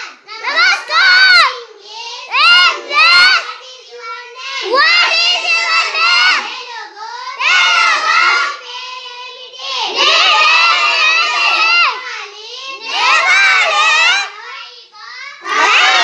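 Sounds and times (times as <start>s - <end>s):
children chanting in unison: 0.0s - 16.0s.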